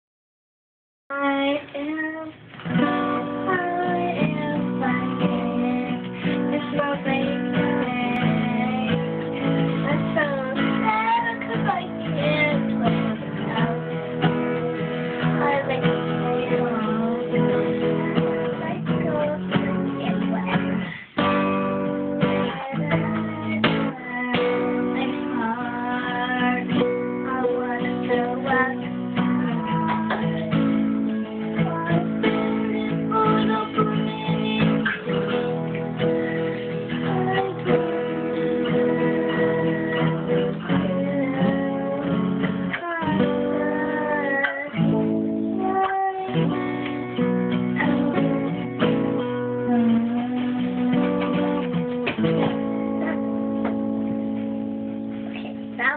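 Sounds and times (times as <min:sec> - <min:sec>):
acoustic guitar strumming: 0:01.2 - 0:55.9.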